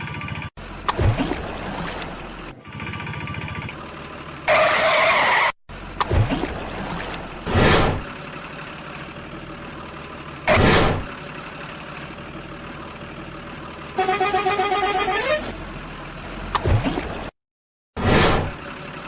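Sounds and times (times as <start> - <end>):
engine-like hum: 0.0 - 17.4, 18.0 - 19.0.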